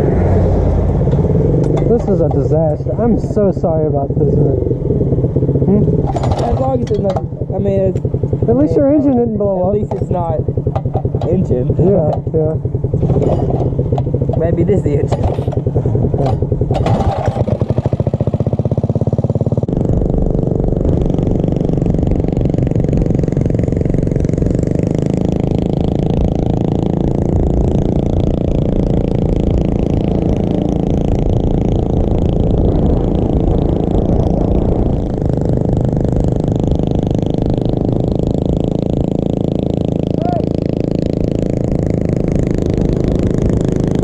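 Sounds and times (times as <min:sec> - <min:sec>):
mini bike engine running: 0:00.0 - 0:44.0.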